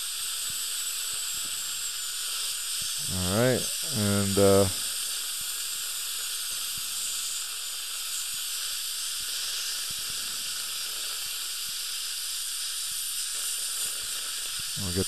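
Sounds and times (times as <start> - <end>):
dental drill high hiss: 0.0 - 15.0.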